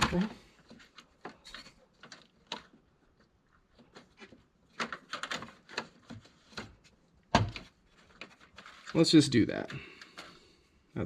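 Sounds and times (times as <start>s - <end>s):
hands clicking on plastic pump: 0.0s - 10.3s.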